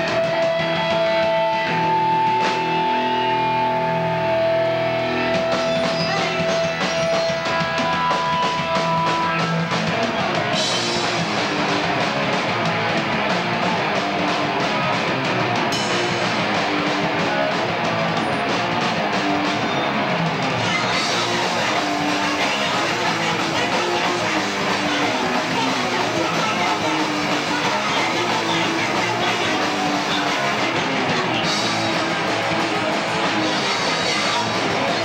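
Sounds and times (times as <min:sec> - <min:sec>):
distorted electric guitar: 0:00.0 - 0:35.0
drum kit: 0:00.0 - 0:35.0.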